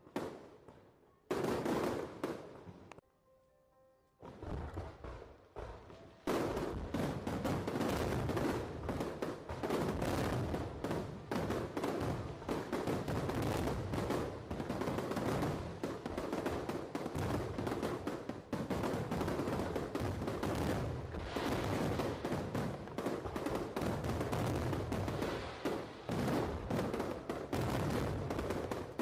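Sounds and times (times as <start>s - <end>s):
fireworks bangs and crackle: 0.0s - 2.9s, 4.2s - 29.0s.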